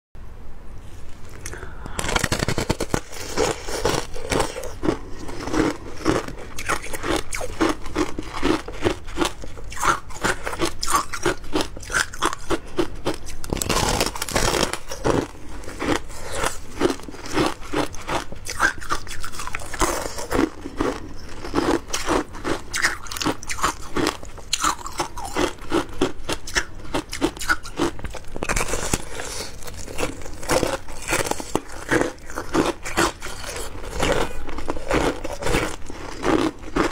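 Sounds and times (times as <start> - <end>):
shaved ice crunching: 2.0 - 25.9, 27.4 - 36.9.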